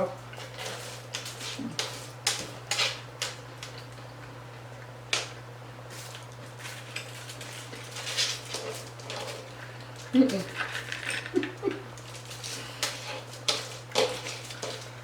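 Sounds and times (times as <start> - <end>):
steady low hum: 0.0 - 15.0
taco shells crunching: 0.3 - 15.0.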